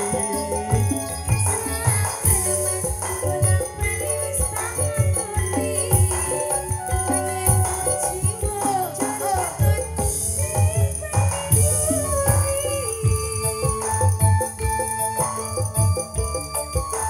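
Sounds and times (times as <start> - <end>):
bright constant jingling: 0.0 - 17.0
gamelan ensemble music: 0.0 - 17.0
steady drum beats: 0.0 - 17.0.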